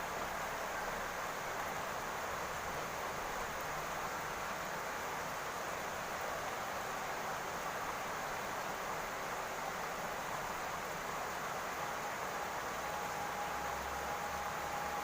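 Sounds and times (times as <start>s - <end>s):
rain on a roof: 0.0s - 15.0s.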